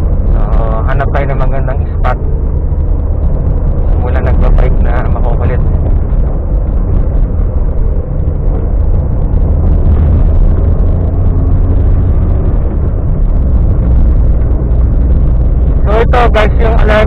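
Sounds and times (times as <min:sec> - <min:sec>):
car engine rumbling: 0:00.0 - 0:17.0
road noise: 0:00.0 - 0:17.0.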